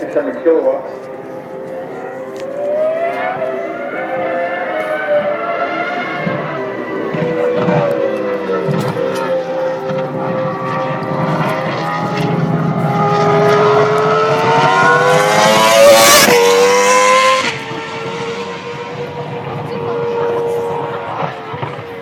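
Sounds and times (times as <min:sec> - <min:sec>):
racing car engine passing: 0:00.0 - 0:22.0.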